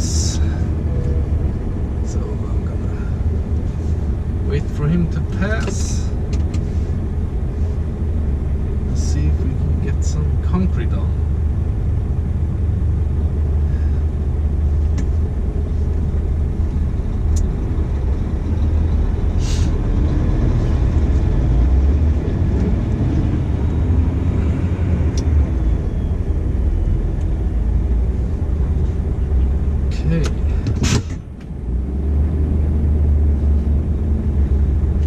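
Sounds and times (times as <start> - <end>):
diesel engine rumble: 0.0 - 35.0.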